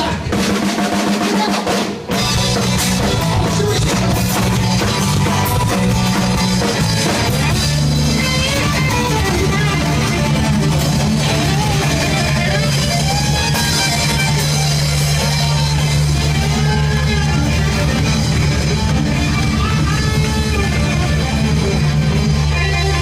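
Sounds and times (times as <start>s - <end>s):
band with guitars bass and drums: 0.0s - 23.0s.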